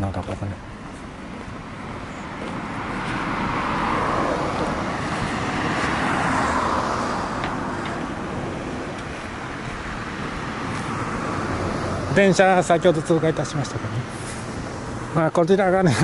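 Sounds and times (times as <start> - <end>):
cars passing close by: 0.0 - 16.0.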